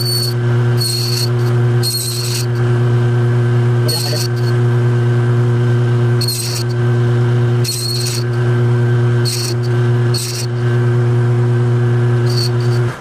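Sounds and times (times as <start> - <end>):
cutting tool hissing: 0.0 - 13.0
metal lathe motor hum: 0.0 - 13.0.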